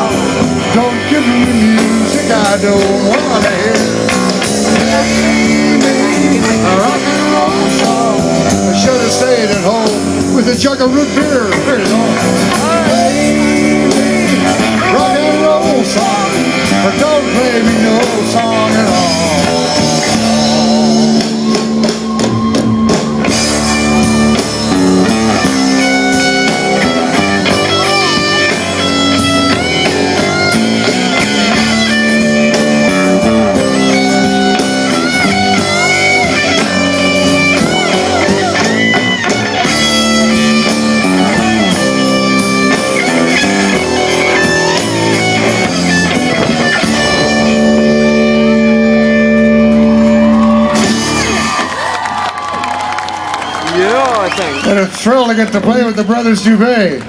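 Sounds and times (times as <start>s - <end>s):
amplified lead guitar: 0.0s - 57.0s
live rock band playing: 0.0s - 57.0s.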